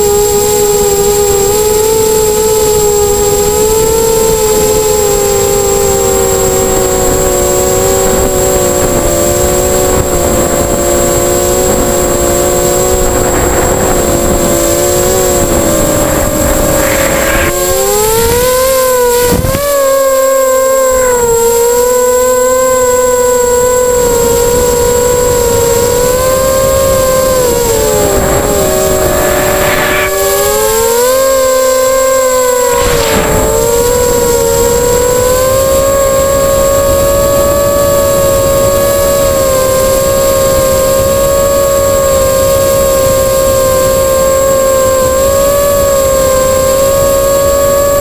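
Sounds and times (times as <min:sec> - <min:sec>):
drone motors and propellers whining: 0:00.0 - 0:48.0
wind rumble on microphone: 0:00.0 - 0:48.0.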